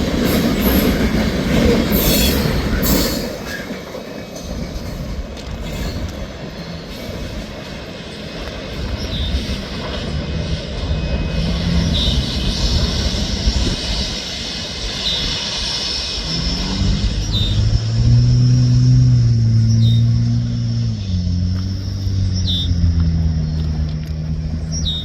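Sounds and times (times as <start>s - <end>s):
diesel locomotive engine drone: 0.0s - 25.0s
train wheels rumbling on rails: 0.0s - 25.0s
high wheel squeak: 0.2s - 7.4s, 8.8s - 25.0s.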